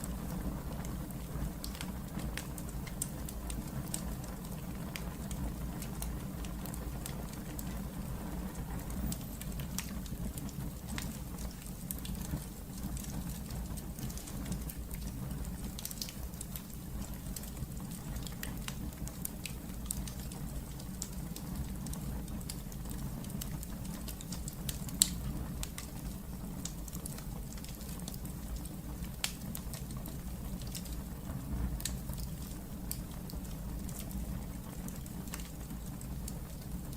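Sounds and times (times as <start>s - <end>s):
fire crackles and pops: 0.0s - 36.9s
low rumble of flames: 0.0s - 36.9s.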